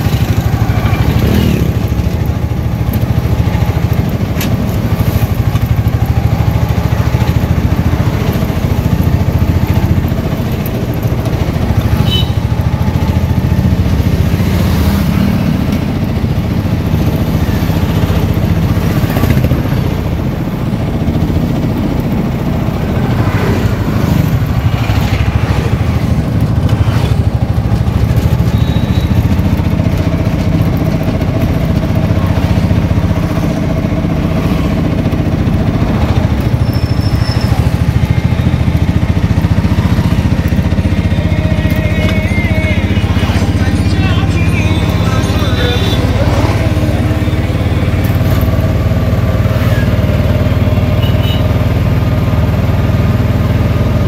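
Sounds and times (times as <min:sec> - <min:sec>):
auto-rickshaw engine running: 0:00.0 - 0:54.0.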